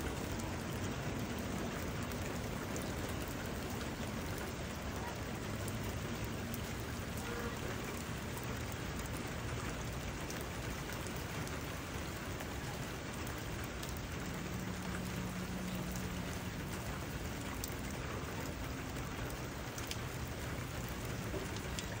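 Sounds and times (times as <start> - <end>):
rain falling on grass: 0.0 - 22.0
drops ticking: 0.2 - 22.0.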